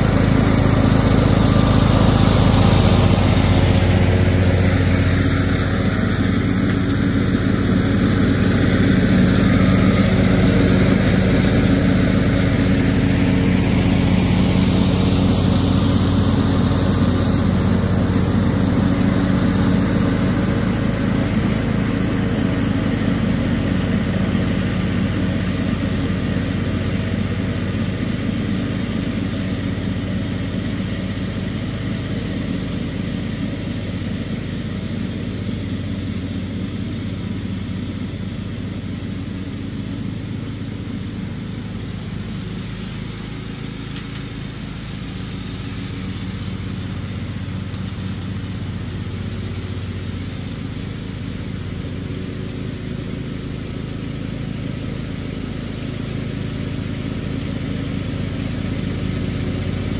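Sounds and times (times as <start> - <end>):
riding lawn mower engine: 0.0 - 59.9.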